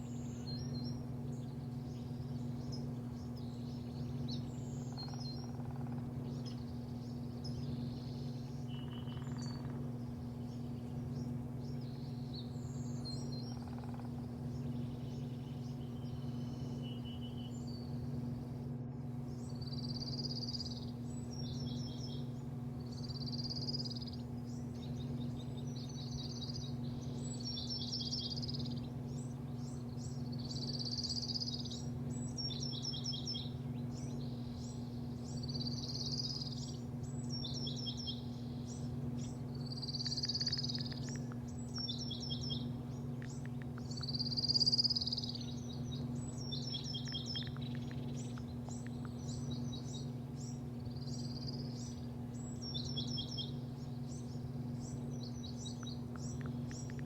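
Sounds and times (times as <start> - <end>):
bird singing: 0.0 - 57.0
low machine hum: 0.0 - 57.0.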